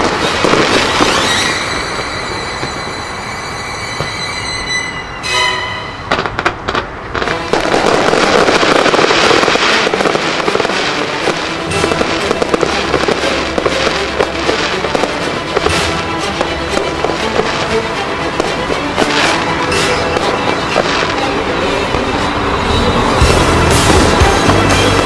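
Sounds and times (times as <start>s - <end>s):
fireworks bangs and crackling: 0.0s - 4.7s, 6.0s - 25.0s
music playing: 0.0s - 25.0s.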